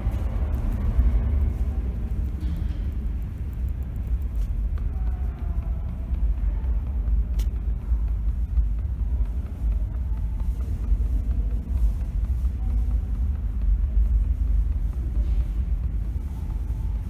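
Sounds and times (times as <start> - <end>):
low rumble of subway station: 0.0 - 17.0.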